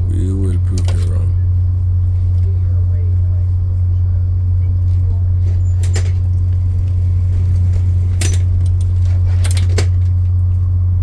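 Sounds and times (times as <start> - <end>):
vehicle interior rumble: 0.0 - 11.0.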